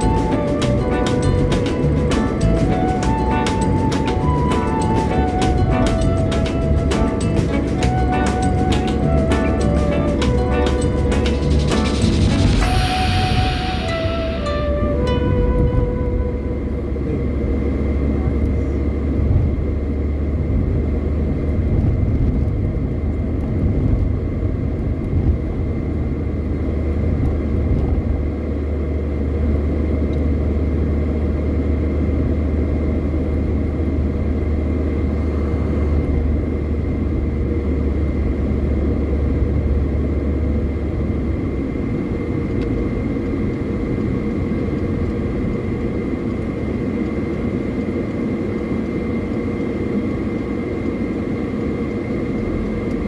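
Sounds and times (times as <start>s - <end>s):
car engine and road noise drone: 0.0s - 53.0s.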